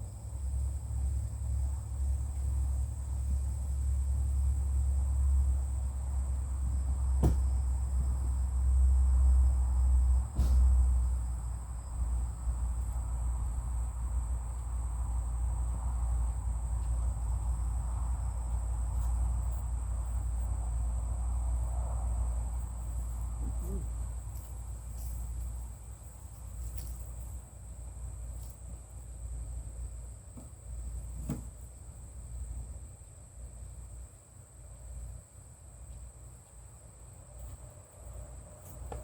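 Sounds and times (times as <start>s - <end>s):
crickets chirring: 0.0s - 39.0s.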